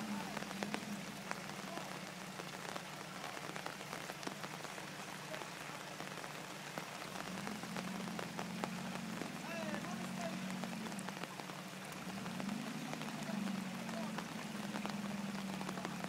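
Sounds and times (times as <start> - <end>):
water hissing with ticks: 0.0 - 16.0.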